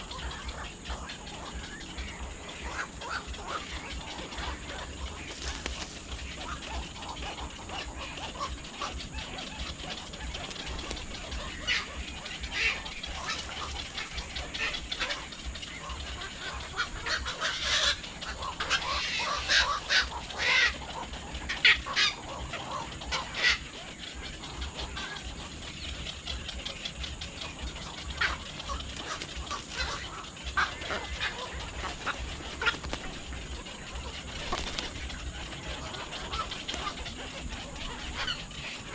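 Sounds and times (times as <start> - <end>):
birds calling: 0.0 - 38.9.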